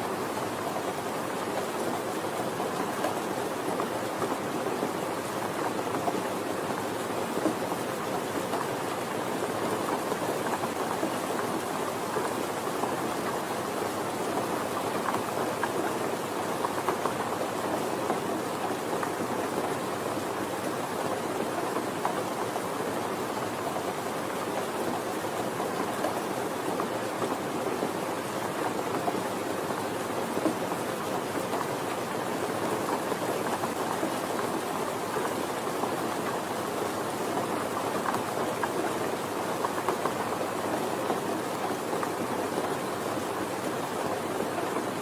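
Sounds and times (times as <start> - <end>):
soft rain patter: 0.0 - 45.0.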